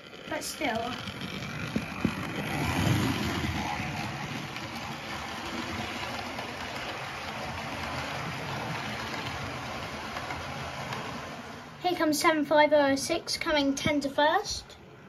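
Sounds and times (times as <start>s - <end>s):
model train running on track: 0.0s - 14.8s.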